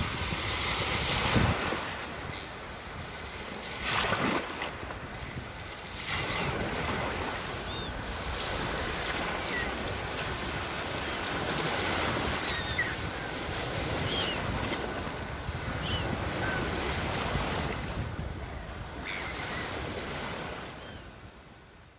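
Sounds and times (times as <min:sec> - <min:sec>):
surf rushing: 0:03.1 - 0:20.8.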